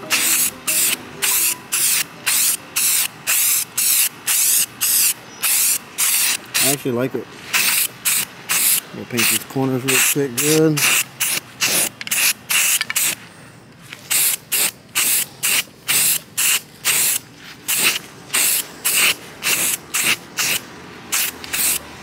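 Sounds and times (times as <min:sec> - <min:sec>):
aerosol can spraying in bursts: 0:00.0 - 0:06.8, 0:07.5 - 0:13.2, 0:14.1 - 0:21.9.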